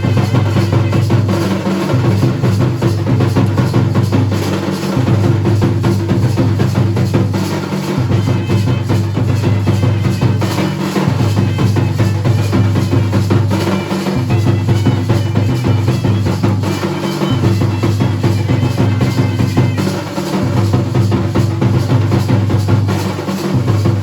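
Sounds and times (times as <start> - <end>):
drums playing rhythm: 0.0 - 24.0.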